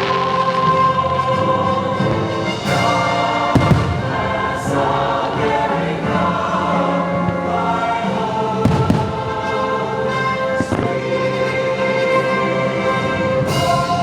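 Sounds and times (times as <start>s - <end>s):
choir singing held notes: 0.0s - 14.0s
orchestral music: 0.0s - 14.0s.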